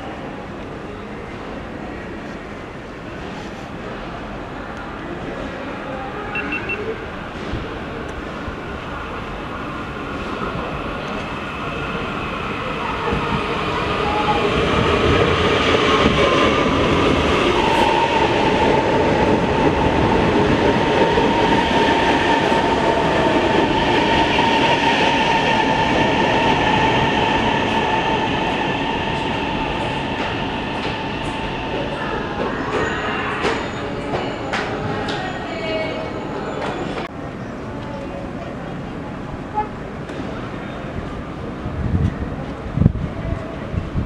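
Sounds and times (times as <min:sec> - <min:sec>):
train running on rails: 0:00.0 - 0:44.0.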